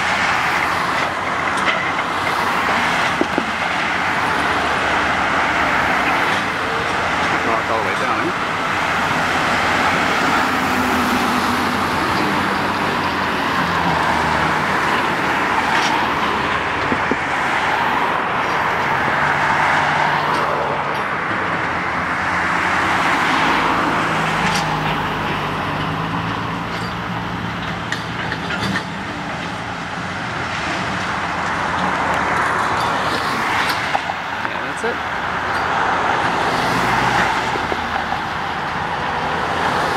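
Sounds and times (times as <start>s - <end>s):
engine hum: 0.0s - 39.9s
tyre noise of passing cars: 0.0s - 39.9s.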